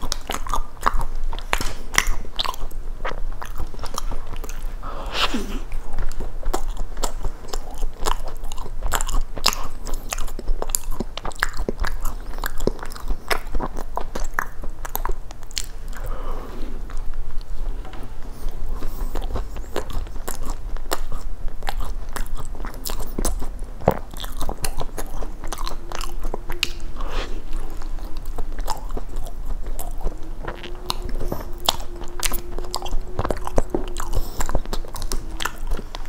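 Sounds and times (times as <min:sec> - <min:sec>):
chewing crunchy food: 0:00.0 - 0:17.6, 0:18.2 - 0:36.0.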